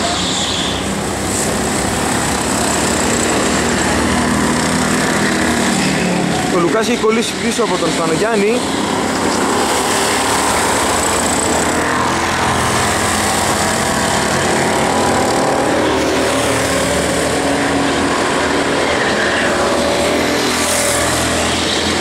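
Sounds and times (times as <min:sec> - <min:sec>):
go-kart engines racing: 0:00.0 - 0:22.0.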